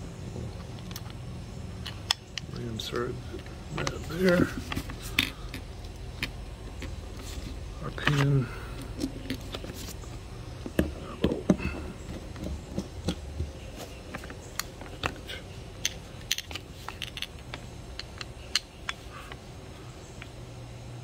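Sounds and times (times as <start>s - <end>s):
low steady hum: 0.0s - 21.0s
small parts clicking and tapping: 0.6s - 1.2s, 1.8s - 19.5s, 20.1s - 20.4s.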